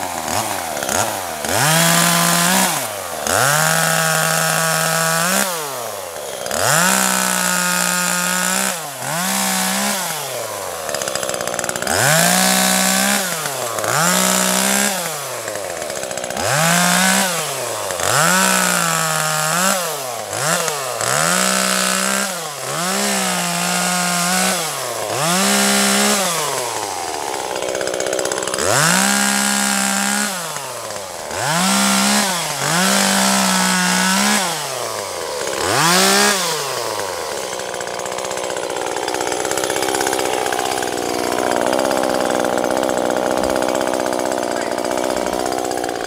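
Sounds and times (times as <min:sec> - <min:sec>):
chainsaw revving and idling: 0:00.0 - 0:46.0.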